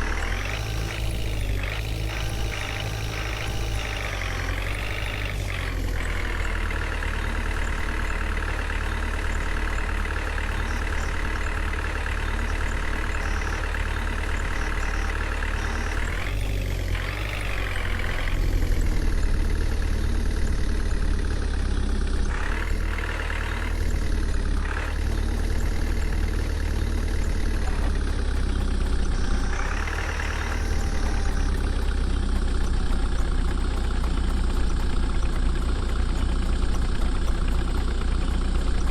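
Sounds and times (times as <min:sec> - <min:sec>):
heavy machinery diesel engine rumble: 0:00.0 - 0:38.9.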